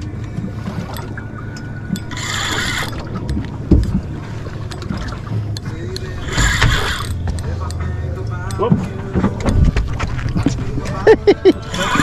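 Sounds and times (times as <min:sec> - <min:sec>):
boat low rumble: 0:00.0 - 0:12.0.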